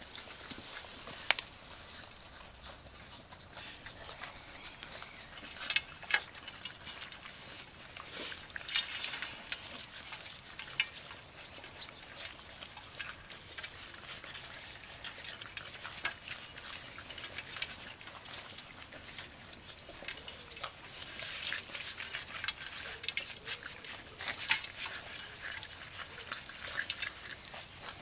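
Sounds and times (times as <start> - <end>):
puppies eating from metal dish: 0.0 - 28.0.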